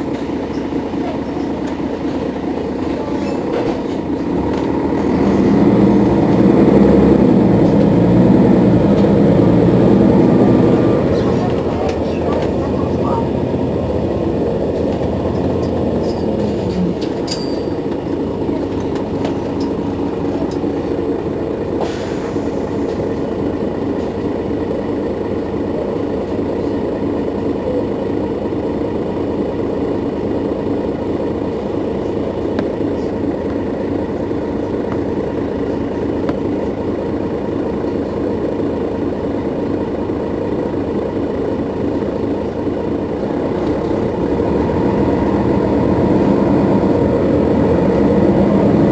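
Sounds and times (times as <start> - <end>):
bus diesel engine idling: 0.0 - 48.9.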